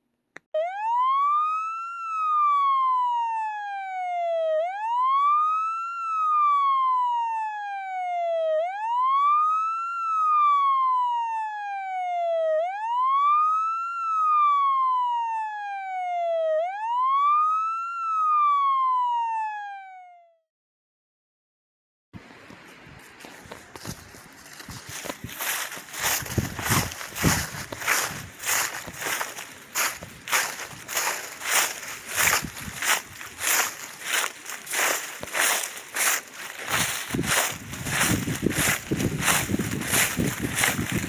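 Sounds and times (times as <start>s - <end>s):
fire engine siren wailing: 0.5s - 20.4s, 23.8s - 41.0s.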